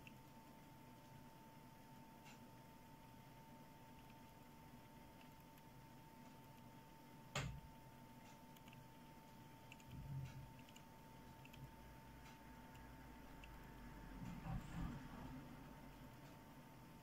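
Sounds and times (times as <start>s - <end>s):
computer mouse clicking: 0.0s - 1.3s, 2.2s - 14.8s
faint steady hum: 0.0s - 17.0s
mouse wheel ticking: 0.0s - 17.0s.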